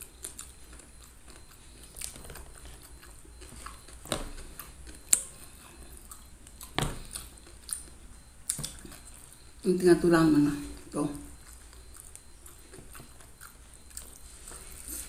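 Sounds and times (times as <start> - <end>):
chewing and lip-smacking: 0.0 - 9.6, 10.8 - 15.0.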